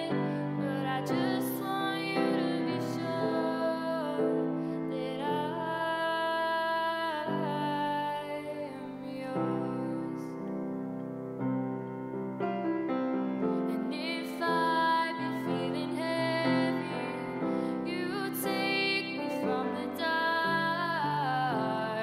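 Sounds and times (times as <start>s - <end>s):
woman singing slow ballad: 0.0s - 10.8s, 13.6s - 22.0s
piano accompaniment: 0.0s - 22.0s.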